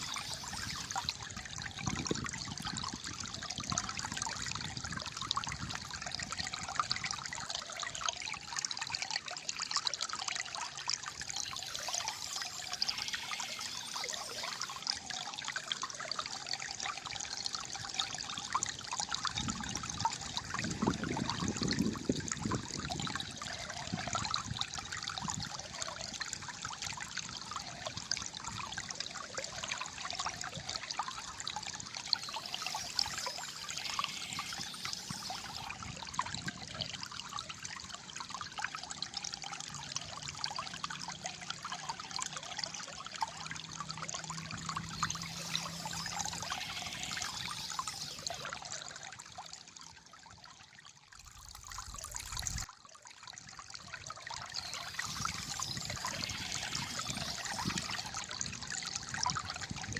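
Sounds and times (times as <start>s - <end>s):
stream water trickling and gurgling: 0.0s - 59.9s.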